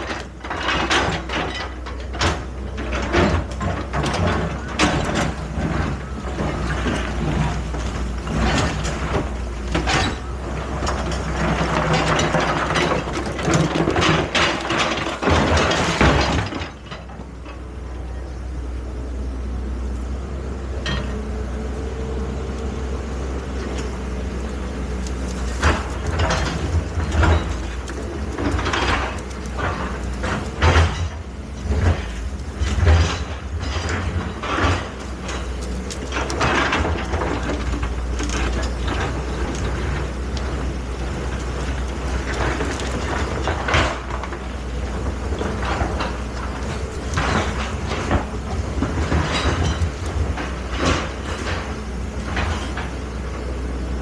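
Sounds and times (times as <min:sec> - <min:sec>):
metallic clanks and knocks: 0:00.0 - 0:17.7, 0:20.8 - 0:21.3, 0:24.9 - 0:53.2
diesel engine running: 0:00.0 - 0:54.0.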